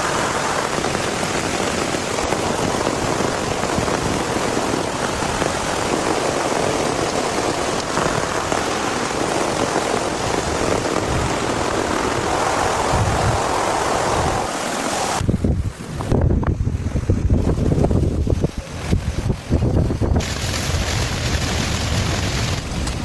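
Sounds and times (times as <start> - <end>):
heavy rain hissing: 0.0 - 23.0
wind buffeting microphone: 0.0 - 23.0.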